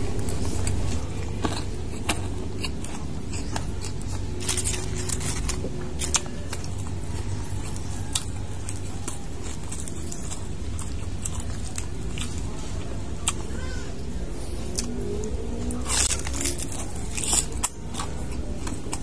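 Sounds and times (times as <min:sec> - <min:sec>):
crunching and chewing crispy food: 0:00.0 - 0:19.0
steady low rumble: 0:00.0 - 0:19.0.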